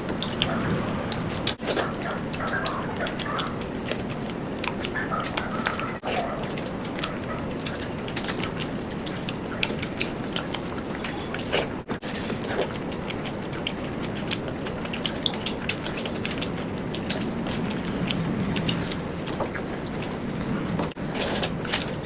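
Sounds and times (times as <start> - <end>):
chewing with crunches: 0.0 - 22.0.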